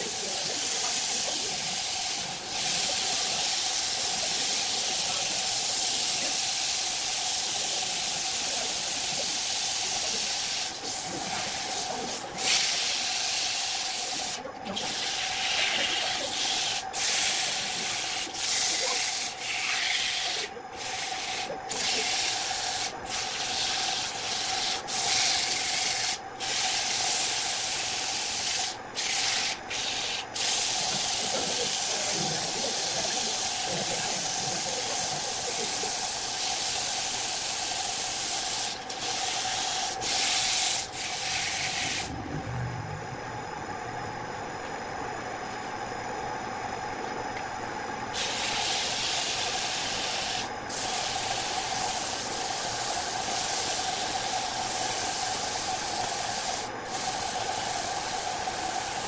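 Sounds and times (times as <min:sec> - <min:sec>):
wood lathe running: 0:00.0 - 0:42.1, 0:48.2 - 0:59.0.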